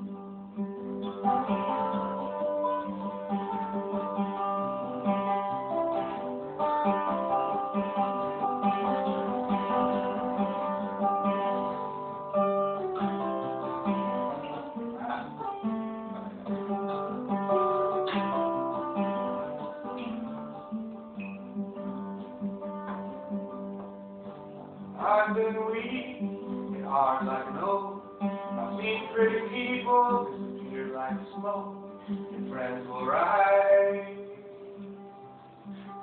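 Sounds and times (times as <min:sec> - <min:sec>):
acoustic guitar: 0:00.0 - 0:36.0.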